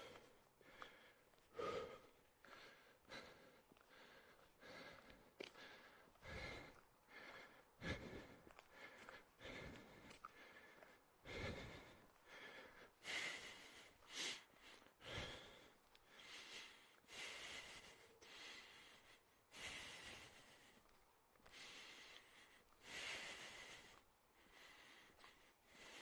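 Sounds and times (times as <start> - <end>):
faint heavy breathing: 0.0 - 26.0.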